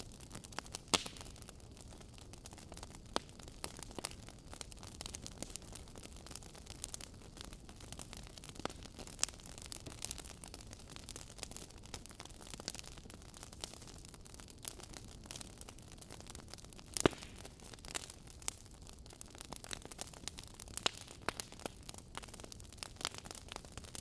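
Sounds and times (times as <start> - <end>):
logs crackling and popping: 0.0 - 24.0.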